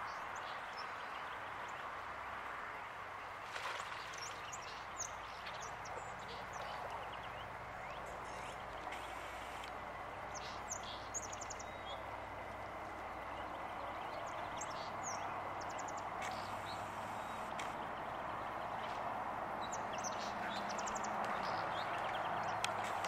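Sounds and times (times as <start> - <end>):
river water rushing: 0.1 - 23.0
small birds chirping: 4.0 - 23.0.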